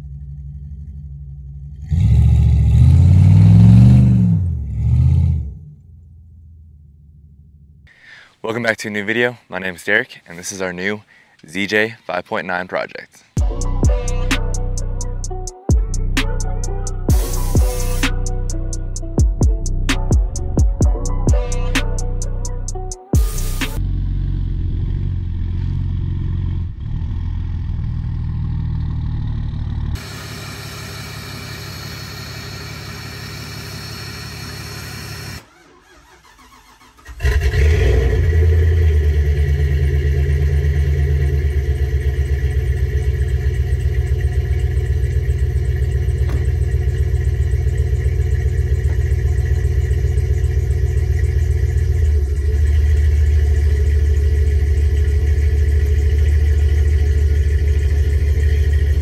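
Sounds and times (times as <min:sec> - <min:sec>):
low vehicle running sounds: 0:00.0 - 0:08.2, 0:13.4 - 0:35.4, 0:37.2 - 0:59.0
car engine starting and running: 0:00.0 - 0:08.4, 0:13.3 - 0:59.0.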